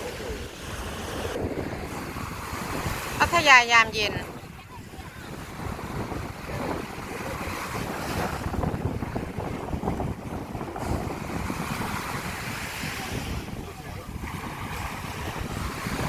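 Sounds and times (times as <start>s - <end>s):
sea waves: 0.0s - 16.0s
wind buffeting microphone: 0.0s - 16.0s.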